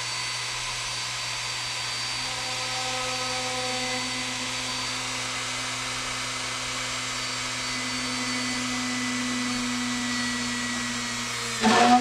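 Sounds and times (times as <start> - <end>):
rotary tool drilling wood: 1.5 - 12.0.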